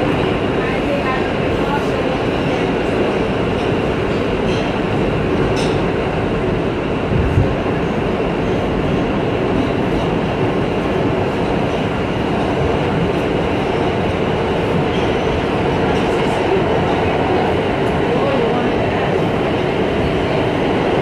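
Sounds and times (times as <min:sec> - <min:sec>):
subway train wheels on rail: 0:00.0 - 0:21.0.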